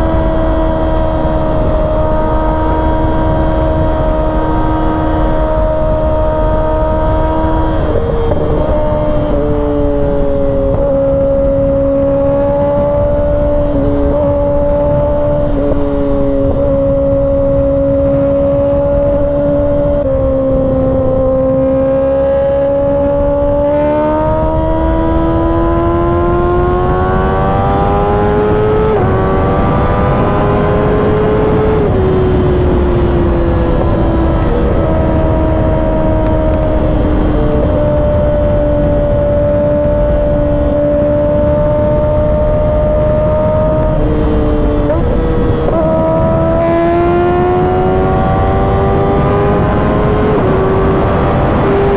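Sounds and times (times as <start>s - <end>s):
motorcycle engine at speed: 0.0s - 51.9s
wind noise rushing: 0.0s - 51.9s.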